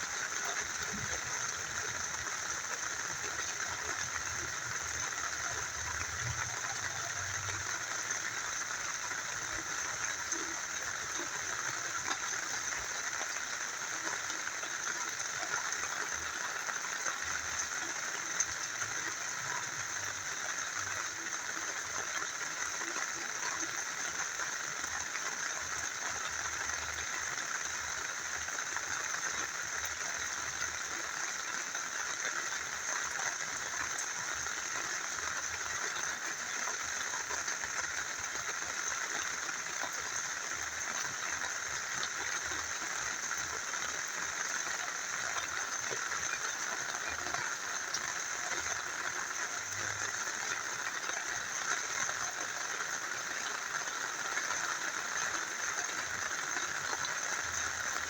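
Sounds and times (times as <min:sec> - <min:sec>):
rain falling: 0:00.0 - 0:58.0
small river flowing: 0:00.0 - 0:58.0.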